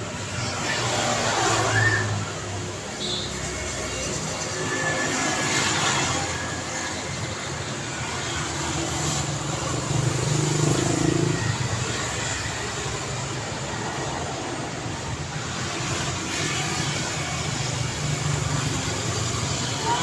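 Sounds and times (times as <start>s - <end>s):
vehicles passing with tyre hiss: 0.0s - 20.0s.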